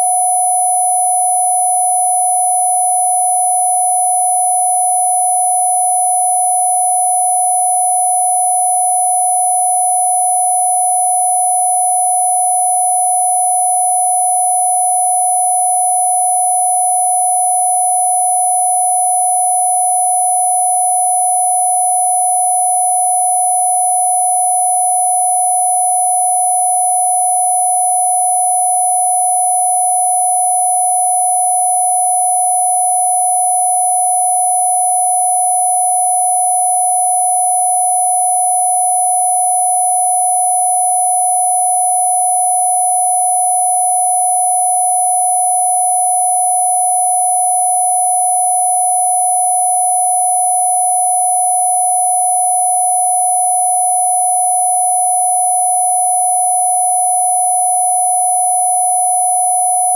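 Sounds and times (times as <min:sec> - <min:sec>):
steady electronic sine tone: 0:00.0 - 0:59.9.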